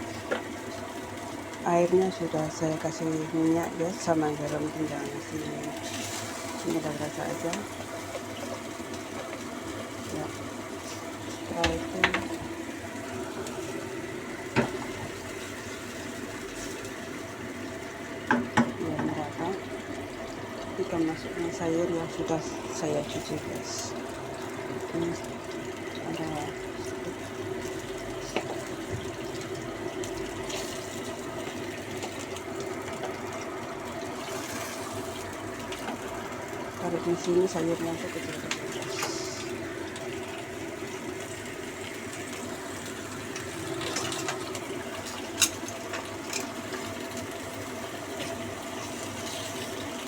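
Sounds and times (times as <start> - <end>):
pot of water hissing: 0.0 - 50.0.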